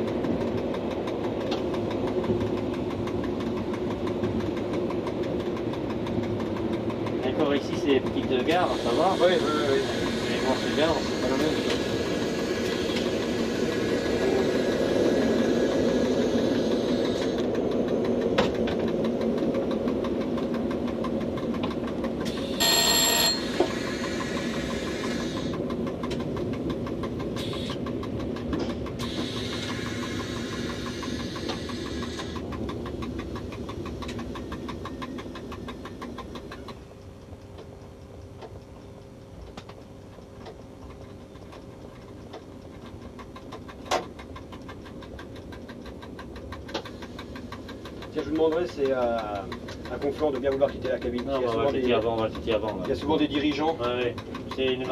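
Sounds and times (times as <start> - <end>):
train motor and wheel noise: 0.0 - 54.9.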